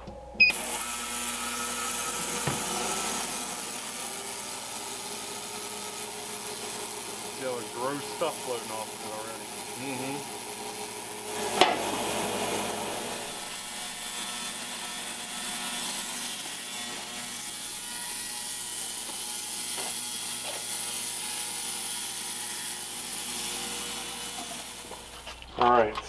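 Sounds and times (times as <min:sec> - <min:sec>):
ultrasonic cleaner hissing: 0:00.5 - 0:25.5.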